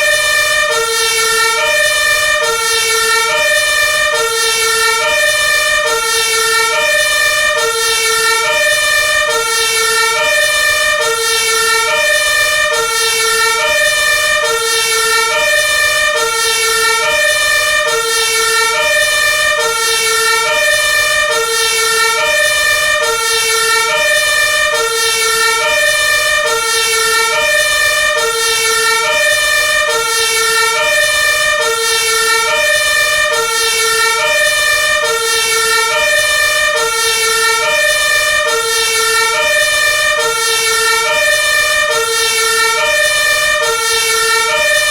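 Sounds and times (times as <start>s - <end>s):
fire truck two-tone siren: 0.0s - 44.9s.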